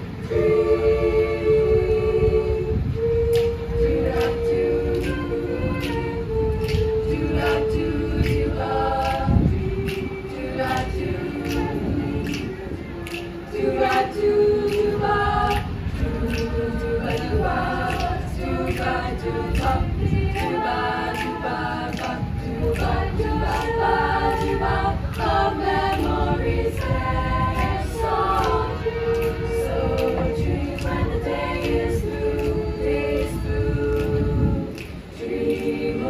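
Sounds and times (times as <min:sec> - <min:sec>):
choir singing a cappella: 0:00.0 - 0:36.0
sharp clicks keeping a beat: 0:03.0 - 0:36.0.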